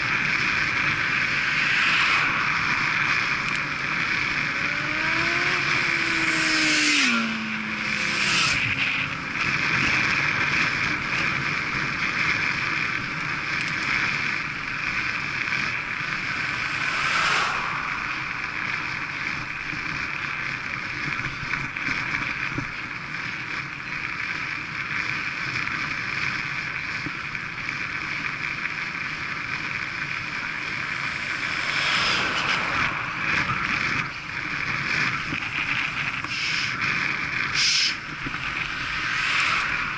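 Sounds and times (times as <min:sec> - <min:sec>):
motorcycle pulling away: 0:00.0 - 0:22.6, 0:24.2 - 0:39.9
wind rushing over microphone: 0:00.0 - 0:23.1, 0:28.5 - 0:39.9
tyre noise on tarmac: 0:00.0 - 0:39.9.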